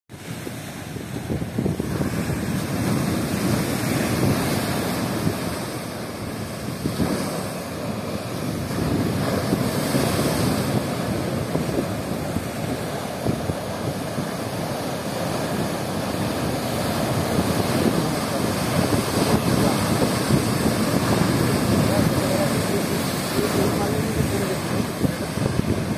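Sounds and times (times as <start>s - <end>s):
waves breaking against sea wall: 0.1s - 25.9s.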